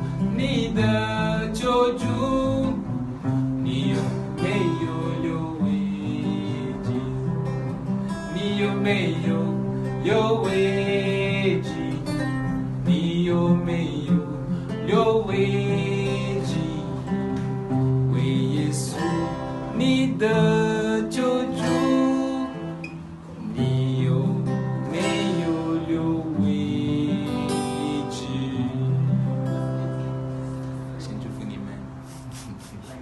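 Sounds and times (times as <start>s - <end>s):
acoustic guitar hymn accompaniment: 0.0s - 33.0s.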